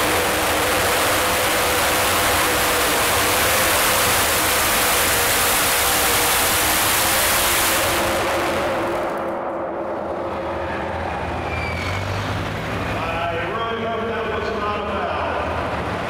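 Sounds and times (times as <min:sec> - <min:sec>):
tractor engine running flat out: 0:00.0 - 0:16.0.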